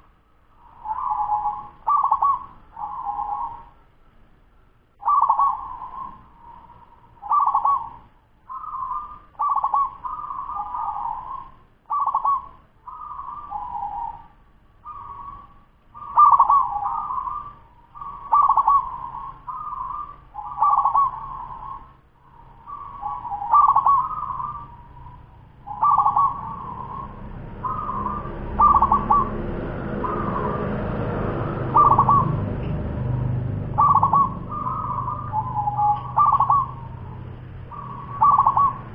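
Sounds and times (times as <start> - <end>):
low background noise: 0.0 - 38.9
dove rolling coo: 0.8 - 3.7, 5.0 - 6.6, 7.2 - 14.3, 16.0 - 21.9, 22.7 - 38.9.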